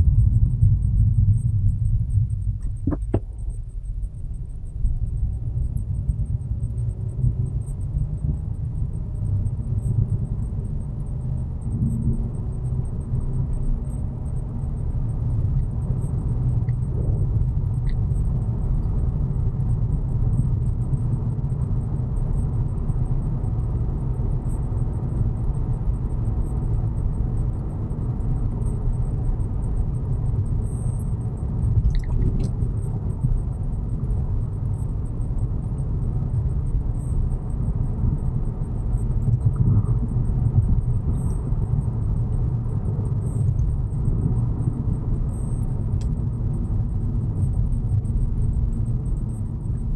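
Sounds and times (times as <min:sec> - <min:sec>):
car rumbling in motion: 0:00.0 - 0:49.9.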